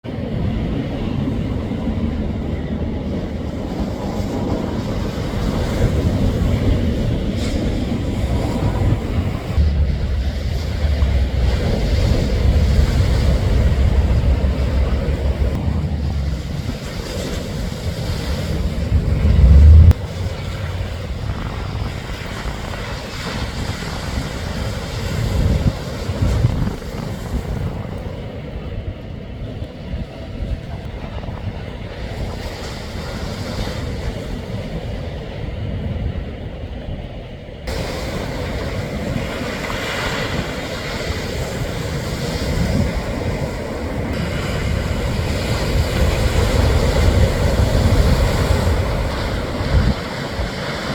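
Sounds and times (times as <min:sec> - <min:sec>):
wind buffeting microphone: 0:00.0 - 0:50.9
ocean surf: 0:00.1 - 0:35.8, 0:36.6 - 0:50.9.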